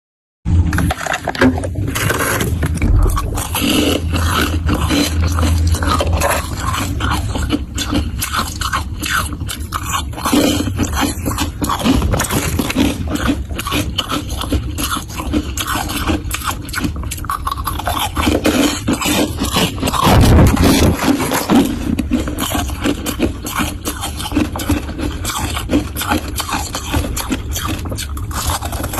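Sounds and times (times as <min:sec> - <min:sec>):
crunchy frost being chewed: 0:01.9 - 0:28.9.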